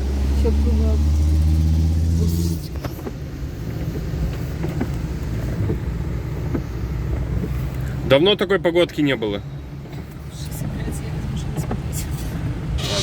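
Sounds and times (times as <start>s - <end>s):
car engine running: 0.0s - 13.0s
car moving through floodwater: 0.0s - 13.0s.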